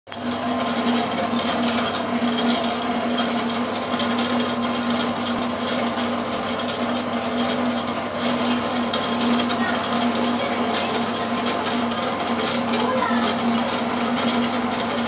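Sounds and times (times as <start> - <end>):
mixer motor humming: 0.1 - 15.0.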